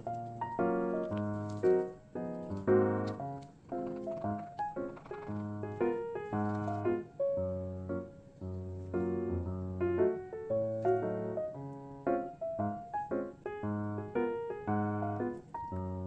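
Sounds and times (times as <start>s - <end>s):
light piano tune: 0.0s - 16.0s.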